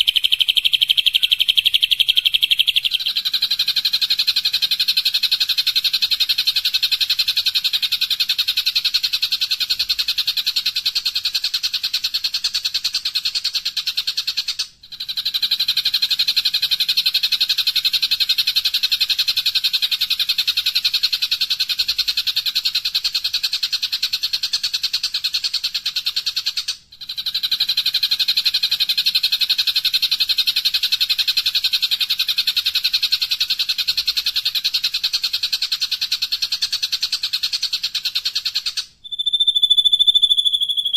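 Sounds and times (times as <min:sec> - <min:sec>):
songbird rattling song: 0:00.0 - 0:40.9.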